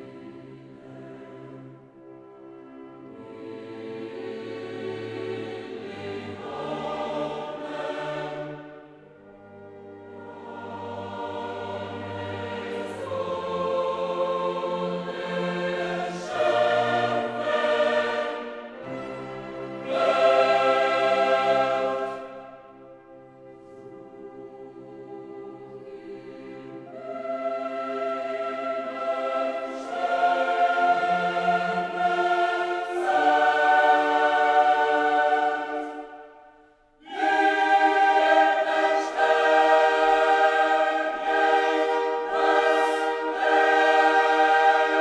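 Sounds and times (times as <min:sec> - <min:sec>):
choir singing held chords: 0:00.0 - 0:45.0
orchestral accompaniment: 0:00.0 - 0:45.0.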